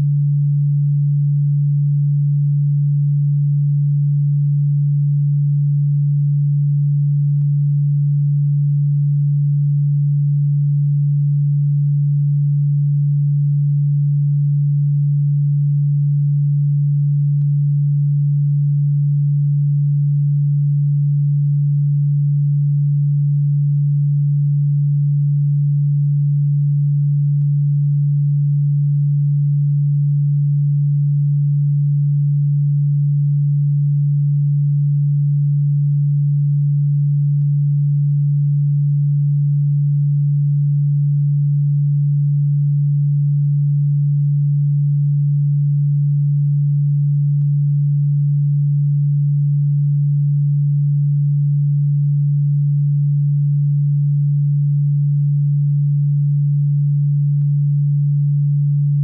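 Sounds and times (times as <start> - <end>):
low steady electronic tone: 0.0 - 59.0.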